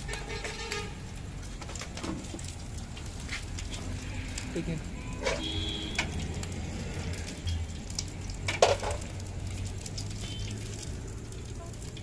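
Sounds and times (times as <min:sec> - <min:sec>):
gas burner burning: 0:00.0 - 0:12.0.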